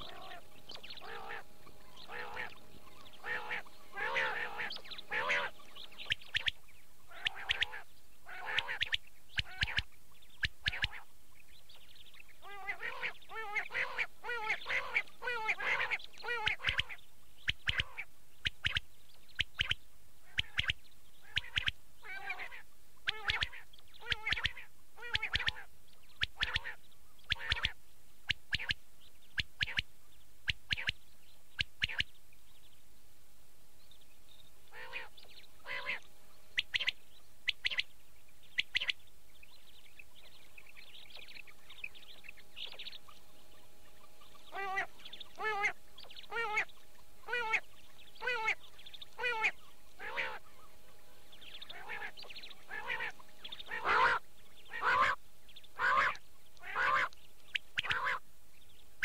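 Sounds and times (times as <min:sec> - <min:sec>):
quail calls: 0:00.0 - 0:11.1, 0:12.1 - 0:18.8, 0:19.4 - 0:28.8, 0:29.4 - 0:31.0, 0:31.6 - 0:32.1, 0:34.7 - 0:37.9, 0:38.5 - 0:39.0, 0:40.2 - 0:58.2
faint steady hum: 0:00.0 - 0:59.0.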